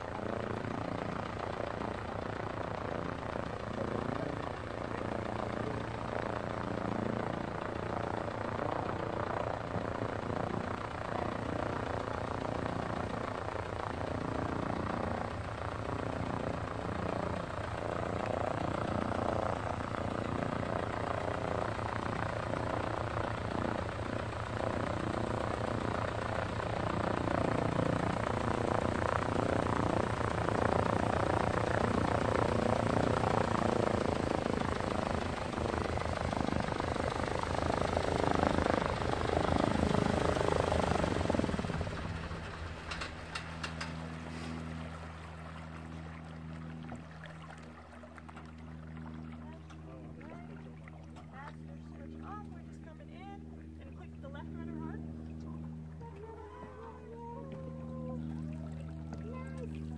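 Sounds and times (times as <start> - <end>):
floatplane propeller engine running: 0.0 - 59.9.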